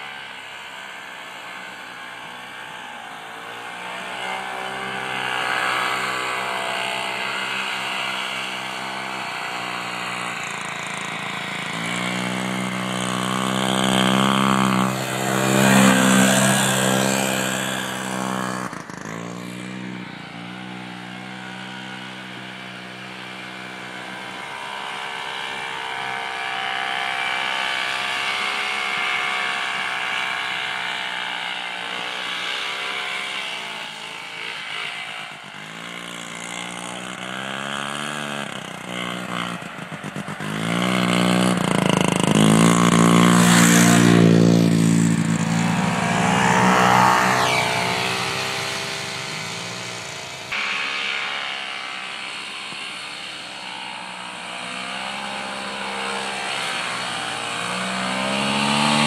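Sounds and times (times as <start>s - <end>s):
distant snowmobile engine droning: 0.0s - 59.0s
snowmobile passing by: 0.0s - 59.0s.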